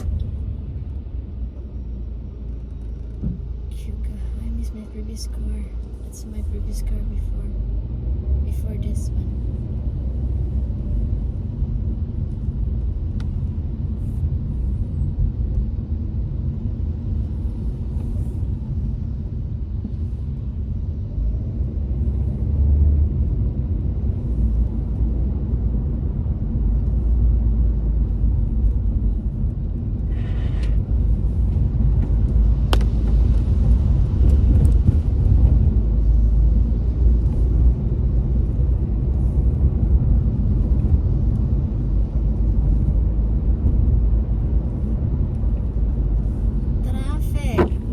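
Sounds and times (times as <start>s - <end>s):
car cabin road rumble: 0.0s - 47.9s.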